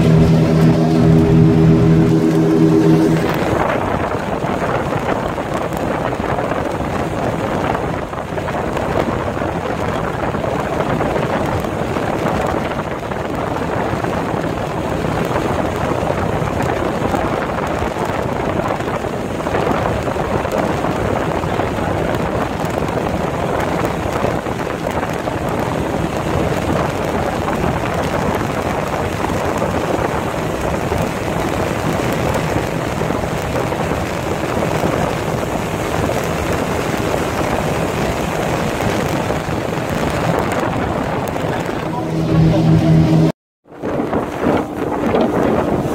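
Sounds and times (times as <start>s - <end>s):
motorboat engine drone: 0.0s - 8.8s, 9.4s - 45.9s
water rushing along hull: 0.0s - 45.9s.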